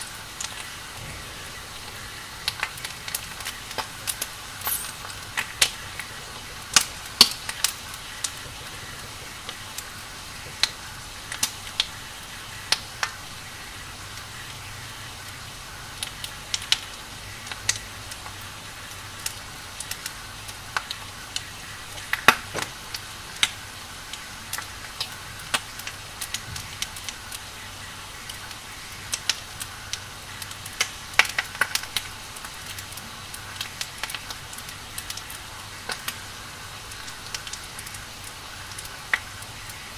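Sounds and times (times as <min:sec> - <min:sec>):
firewood crackling: 0:00.0 - 0:14.5, 0:15.2 - 0:39.9.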